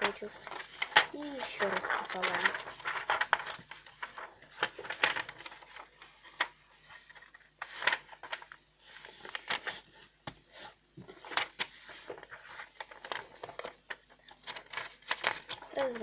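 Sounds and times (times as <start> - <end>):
paper being folded and creased: 0.0 - 16.0.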